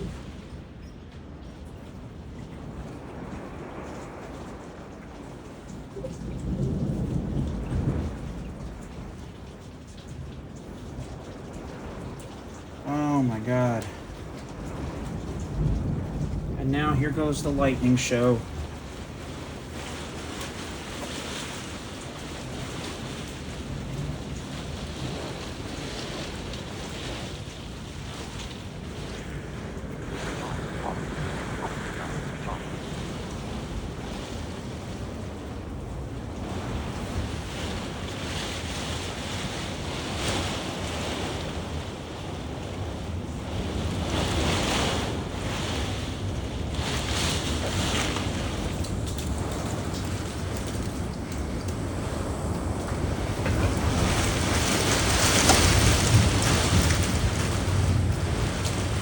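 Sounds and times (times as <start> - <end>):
gusty wind: 0.0 - 59.0
heavy rain: 0.0 - 59.0.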